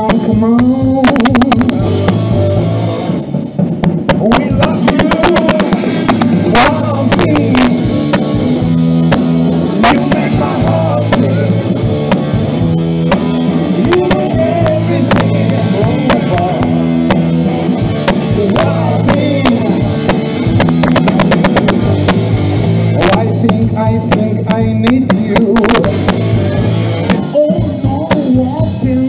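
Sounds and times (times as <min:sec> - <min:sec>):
live band playing: 0:00.0 - 0:29.0
rapid drum hits: 0:00.0 - 0:29.0.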